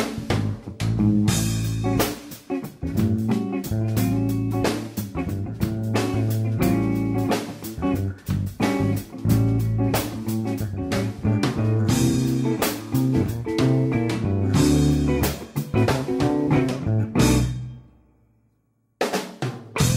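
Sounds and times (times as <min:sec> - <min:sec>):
instrumental music: 0:00.0 - 0:19.9.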